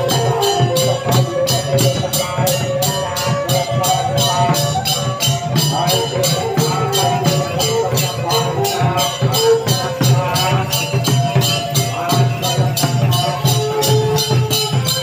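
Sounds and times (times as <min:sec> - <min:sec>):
fast percussion beat: 0:00.0 - 0:15.0
held melody line: 0:00.0 - 0:15.0.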